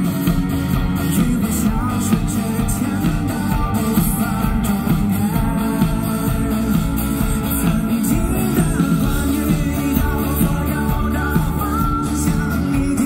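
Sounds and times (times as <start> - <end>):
electric guitar: 0.0 - 13.0
live rock band playing: 0.0 - 13.0
person singing into a microphone: 1.0 - 13.0.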